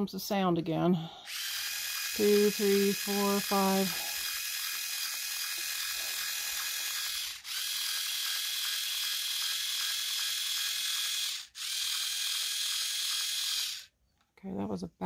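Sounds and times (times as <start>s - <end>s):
hair twisting tool whirring: 1.2s - 14.0s.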